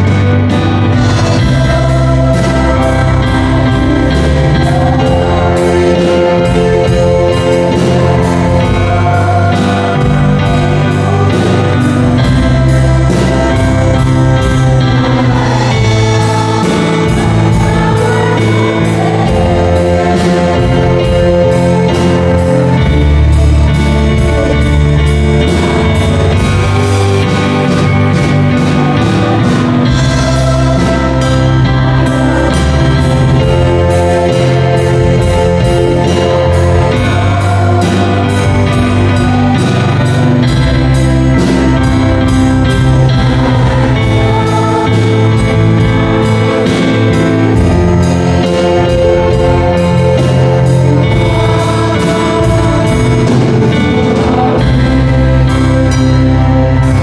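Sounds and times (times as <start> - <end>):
drum kit with cymbals: 0.0 - 57.0
electric guitar: 0.0 - 57.0
electronic keyboard: 0.0 - 57.0.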